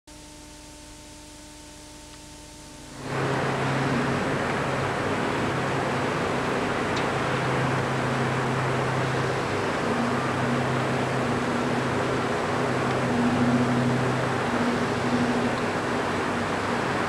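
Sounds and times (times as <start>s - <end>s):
distant diesel locomotive engine: 3.0s - 17.0s.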